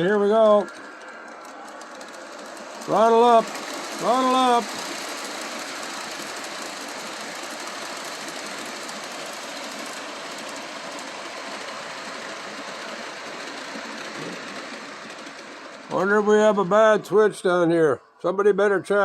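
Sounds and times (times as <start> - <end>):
model electric locomotive running: 0.0 - 19.0.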